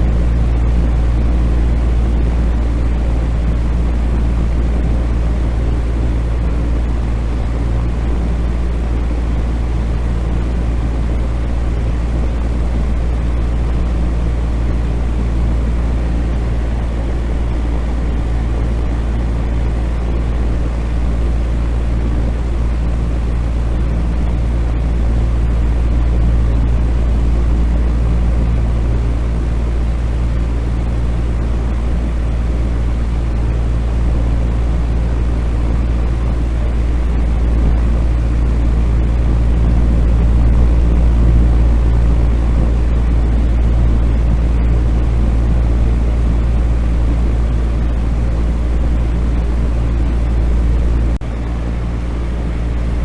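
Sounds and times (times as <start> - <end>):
electric fan running: 0.0 - 53.0.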